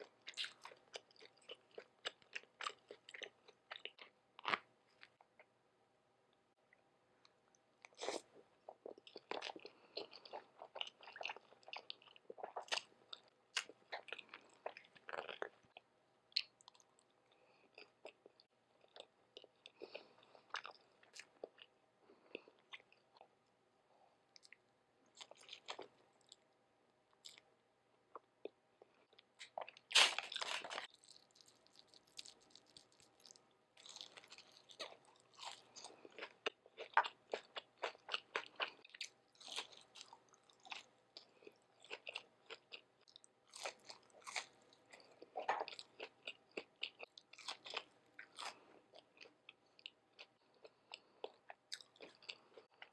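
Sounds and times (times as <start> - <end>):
chewing and crunching food: 0.0 - 5.6, 7.2 - 27.5, 28.1 - 52.9.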